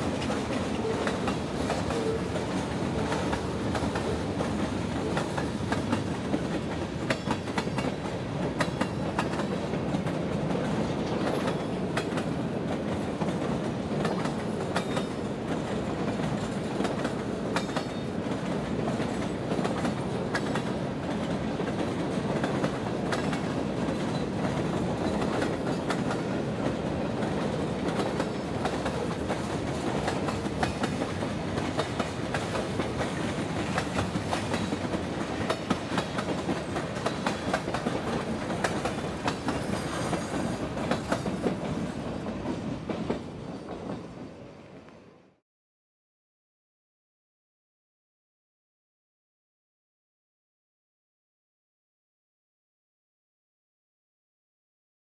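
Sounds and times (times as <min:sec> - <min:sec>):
clickety-clack over rail joints: 0:00.0 - 0:45.0
train wheels rumbling on rails: 0:00.0 - 0:45.0.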